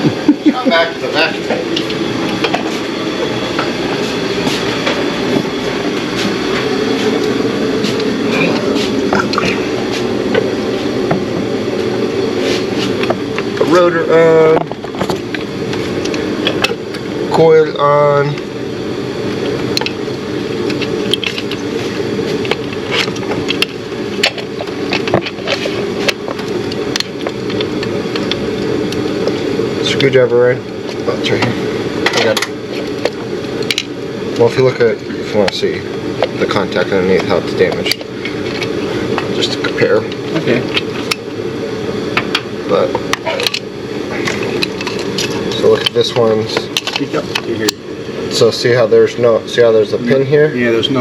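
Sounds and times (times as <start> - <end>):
machine motor and fan drone: 0.0 - 51.0.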